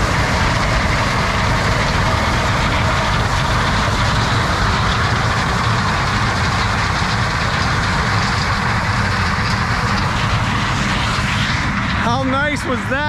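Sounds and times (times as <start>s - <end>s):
combine engine drone: 0.0s - 13.0s.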